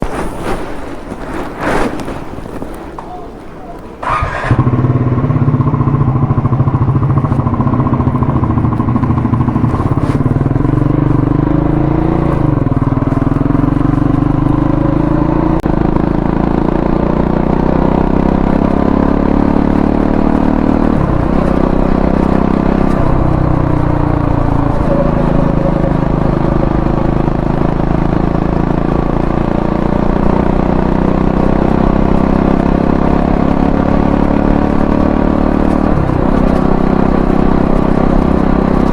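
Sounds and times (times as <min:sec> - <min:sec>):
motorcycle engine revving: 0:03.0 - 0:38.9.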